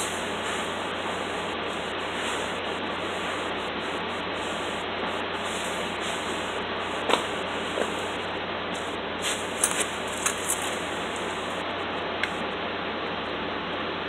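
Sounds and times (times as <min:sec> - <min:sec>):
steady hiss: 0:00.0 - 0:12.4.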